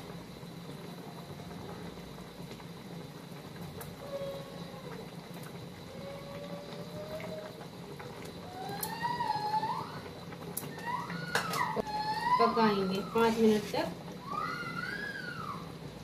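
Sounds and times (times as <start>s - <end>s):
thick gravy bubbling in a pot: 0.0s - 16.0s.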